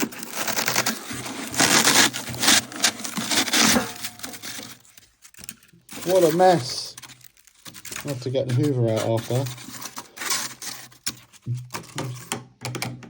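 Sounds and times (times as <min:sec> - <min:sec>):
packing rustling and scraping: 0:00.0 - 0:12.4.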